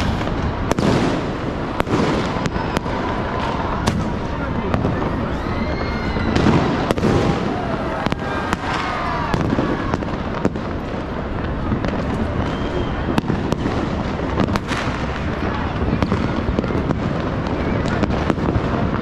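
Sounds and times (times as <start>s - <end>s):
firework whistles: 0.0s - 4.2s, 4.9s - 10.6s, 11.4s - 18.5s
rumble of distant fireworks: 0.0s - 19.0s
sharp firecracker bangs: 0.0s - 19.0s.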